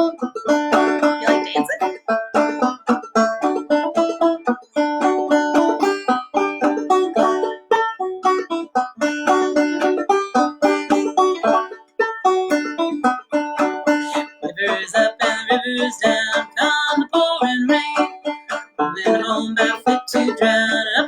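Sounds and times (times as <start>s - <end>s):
banjo playing: 0.0s - 21.0s.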